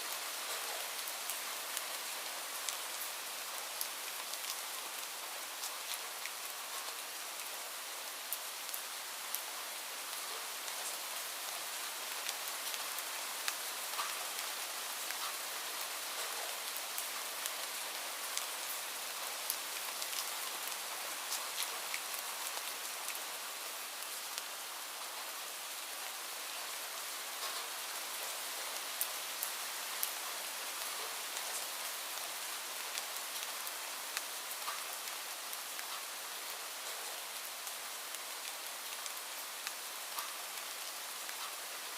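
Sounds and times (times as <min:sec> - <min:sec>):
steady rain falling: 0:00.0 - 0:41.9
raindrops ticking on a surface: 0:00.1 - 0:41.9.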